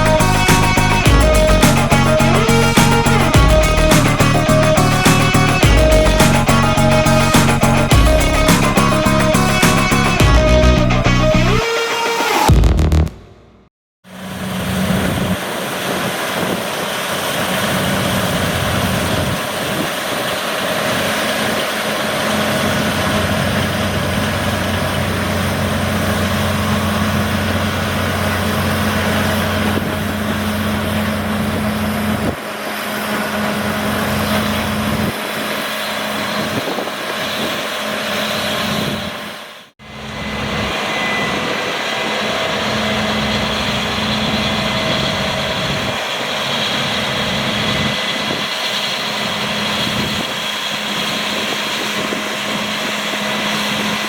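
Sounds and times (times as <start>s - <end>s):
combine harvester running: 0.0s - 11.0s, 14.1s - 54.0s.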